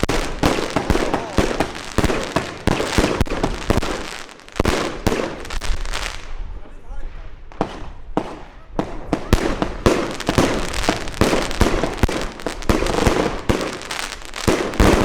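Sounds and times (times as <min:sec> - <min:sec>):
fireworks bangs: 0:00.0 - 0:06.4, 0:07.4 - 0:15.0
fireworks crackling and hiss: 0:00.0 - 0:15.0.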